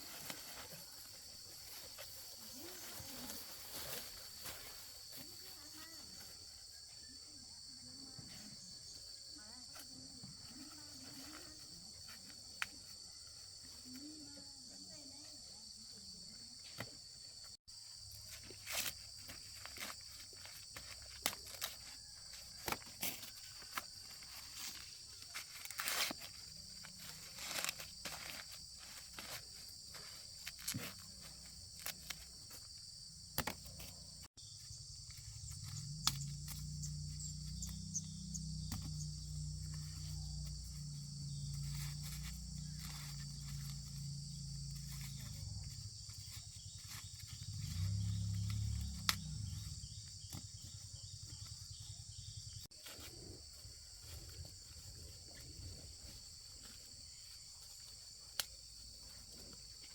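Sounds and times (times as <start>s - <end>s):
footsteps and handling rustles: 0.0s - 6.8s, 16.6s - 59.9s
insects chirring: 0.0s - 59.9s.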